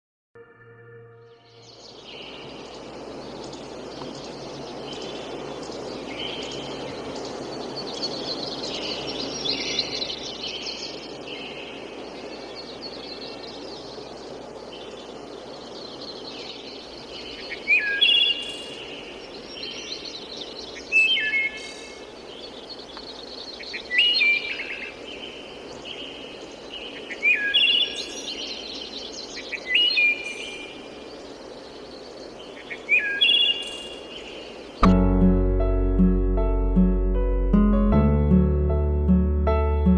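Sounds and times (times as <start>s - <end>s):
birds chirping and singing: 0.6s - 35.2s.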